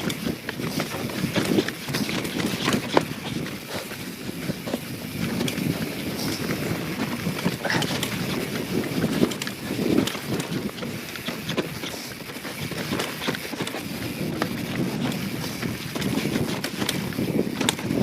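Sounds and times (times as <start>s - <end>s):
bike clicking and rattling: 0.0s - 18.0s
bike tyres rolling on dirt: 0.0s - 18.0s.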